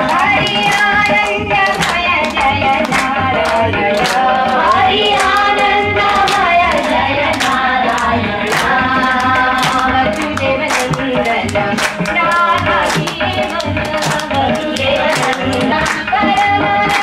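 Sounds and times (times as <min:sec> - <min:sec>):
hand claps: 0:00.0 - 0:17.0
person singing: 0:00.0 - 0:17.0.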